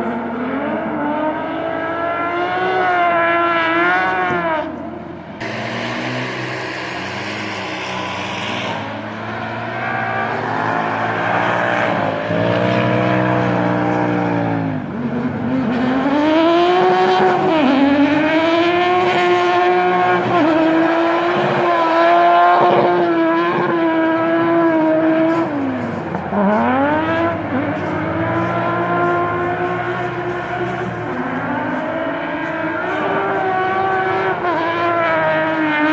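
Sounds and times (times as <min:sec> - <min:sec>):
racing car engine revving: 0:00.0 - 0:35.9.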